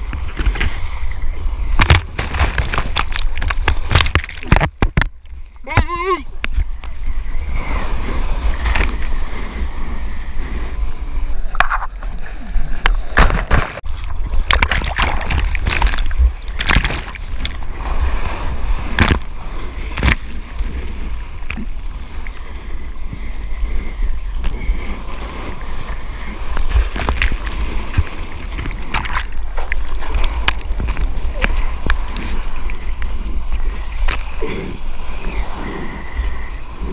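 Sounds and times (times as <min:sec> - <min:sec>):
water splashing over camera: 0:00.0 - 0:07.0, 0:11.3 - 0:36.9
low rumble of water: 0:00.0 - 0:13.2, 0:13.8 - 0:36.9
wind buffeting camera: 0:00.0 - 0:36.9.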